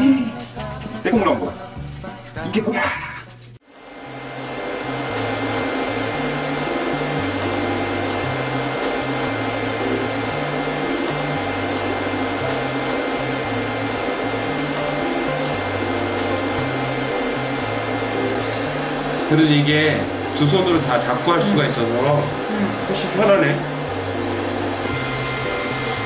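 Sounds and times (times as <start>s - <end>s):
pet dryer air rush with whine: 3.6s - 26.0s.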